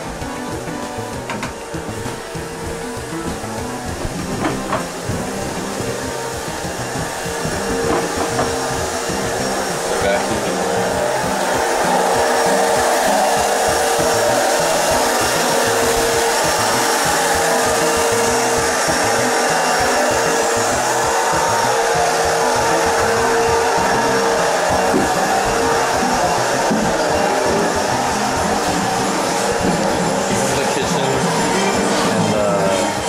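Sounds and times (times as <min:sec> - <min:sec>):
loud rushing air noise: 0:00.0 - 0:32.3
background music with bass line: 0:00.0 - 0:33.0.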